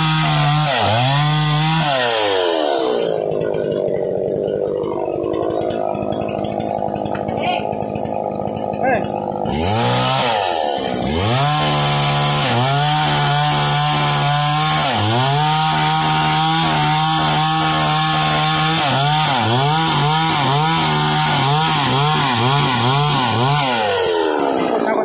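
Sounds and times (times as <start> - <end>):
chainsaw running at high revs: 0.0 - 25.0.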